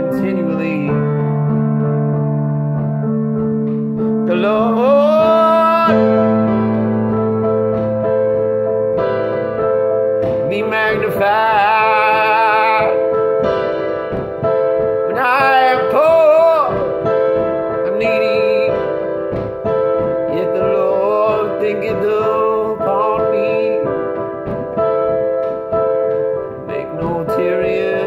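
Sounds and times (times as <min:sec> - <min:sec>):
person singing with vibrato: 0:00.0 - 0:01.3, 0:04.0 - 0:08.5, 0:10.3 - 0:28.0
held keyboard chords: 0:00.0 - 0:28.0.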